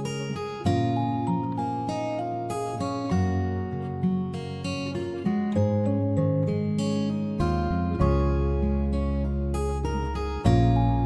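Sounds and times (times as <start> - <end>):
strummed guitar chords: 0.0 - 11.0.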